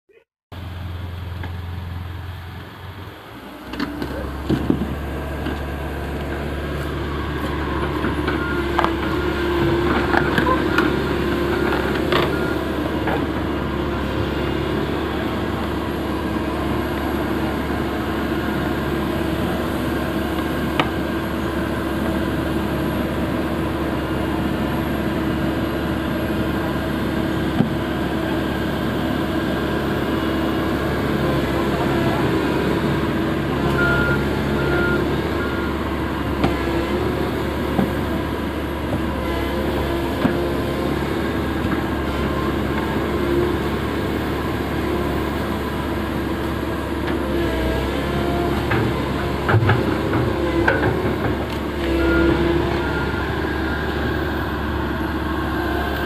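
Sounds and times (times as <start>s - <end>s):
excavator diesel engine: 0.1s - 56.0s.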